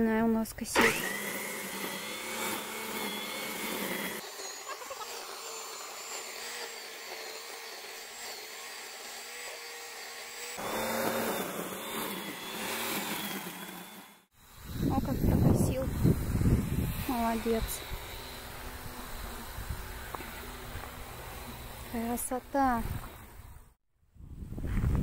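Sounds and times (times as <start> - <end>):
string trimmer motor whine: 0.7 - 23.8.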